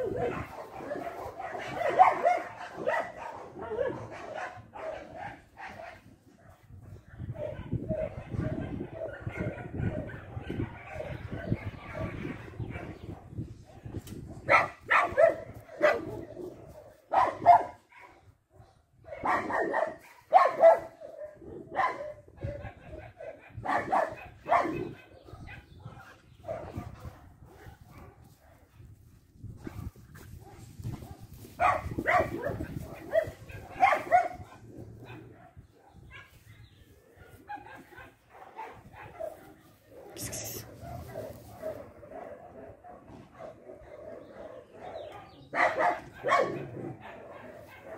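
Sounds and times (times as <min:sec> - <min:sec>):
dog barking: 0:00.0 - 0:28.9, 0:29.6 - 0:47.9.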